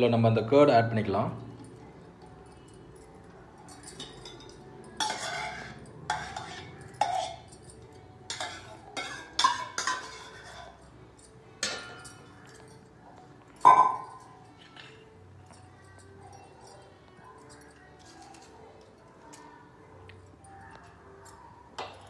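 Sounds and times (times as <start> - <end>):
utensils clinking against a pot: 1.6 - 15.6, 16.3 - 19.5, 20.1 - 22.0.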